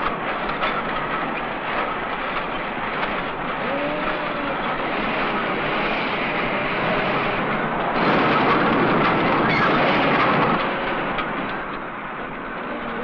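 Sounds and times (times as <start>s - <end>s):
assembly line machinery din: 0.0s - 13.0s.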